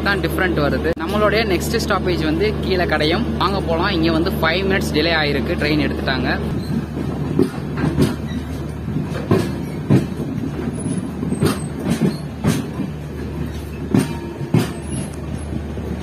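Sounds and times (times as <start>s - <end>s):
train rumble: 0.0s - 16.0s
wheels clacking over rail joints: 1.0s - 16.0s.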